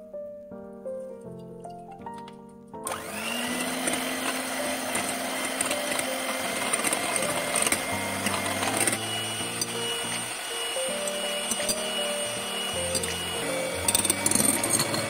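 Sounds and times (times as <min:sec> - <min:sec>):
electric hand mixer running: 0:02.8 - 0:15.0.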